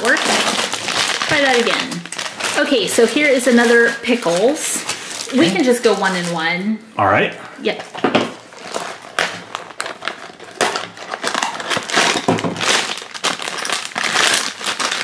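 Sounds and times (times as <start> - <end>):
foil bag crinkling and tearing: 0.0 - 6.7, 8.4 - 15.0.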